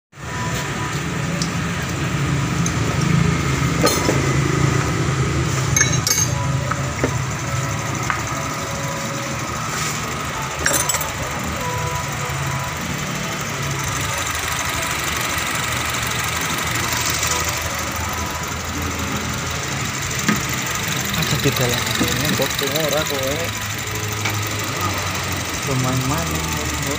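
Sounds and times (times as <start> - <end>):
car engine idling: 0.2 - 26.9.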